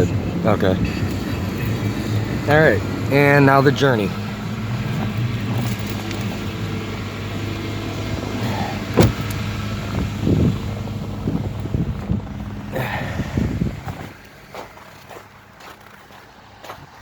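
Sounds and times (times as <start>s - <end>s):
car engine idling: 0.0s - 16.7s.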